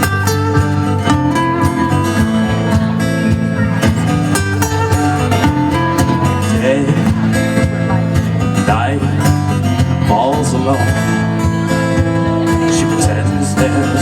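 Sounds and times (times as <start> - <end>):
bass line: 0.0 - 14.0
drums: 0.0 - 14.0
electric guitar: 0.0 - 14.0.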